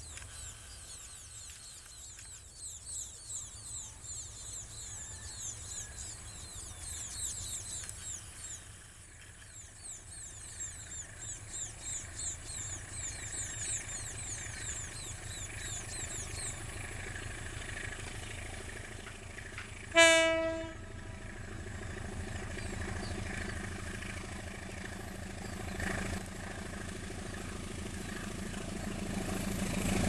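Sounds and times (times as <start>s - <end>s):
distant locomotive engine rumble: 0.0s - 30.0s.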